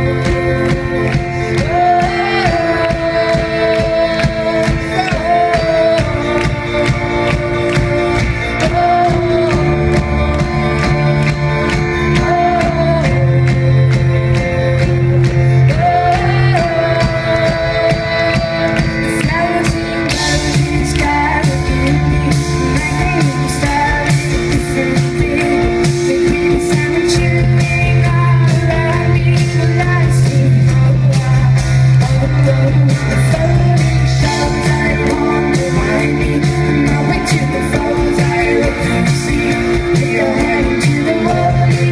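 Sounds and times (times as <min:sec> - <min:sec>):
deep bass: 0:00.0 - 0:41.9
electric keyboard chords: 0:00.0 - 0:41.9
person singing lead vocals: 0:00.0 - 0:41.9.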